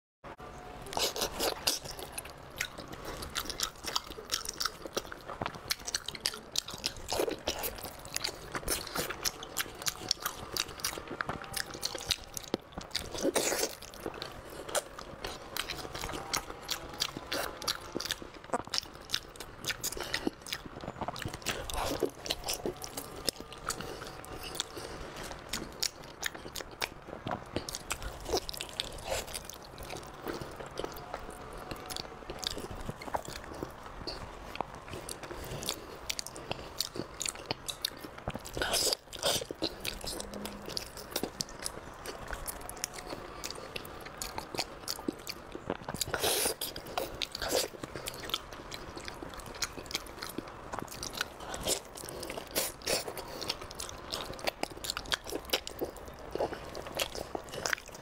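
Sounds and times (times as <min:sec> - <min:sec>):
person chewing with mouth clicks: 0:00.8 - 0:58.0.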